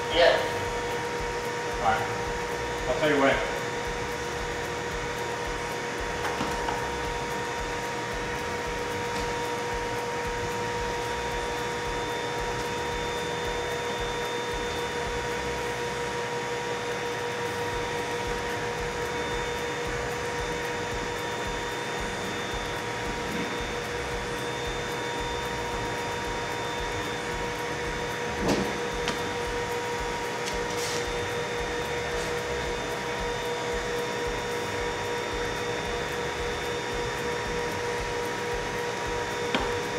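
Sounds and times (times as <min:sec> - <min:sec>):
blower humming: 0:00.0 - 0:39.9.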